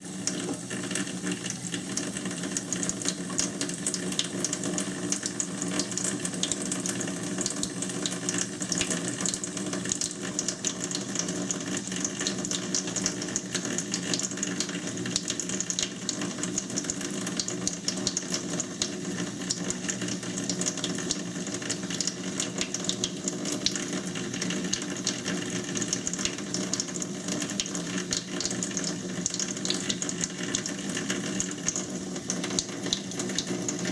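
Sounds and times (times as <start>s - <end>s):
tap water running into sink: 0.0s - 33.9s.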